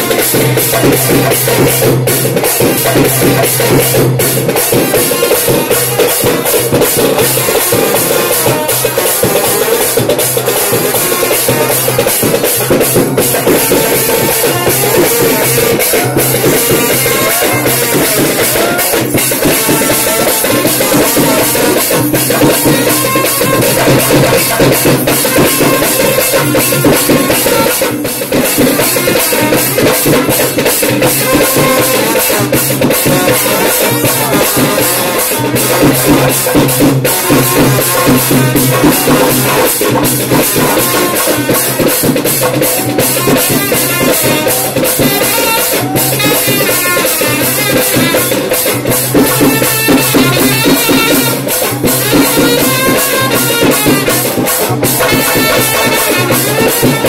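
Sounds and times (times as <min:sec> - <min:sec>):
fast hand-drum strokes: 0:00.0 - 0:57.0.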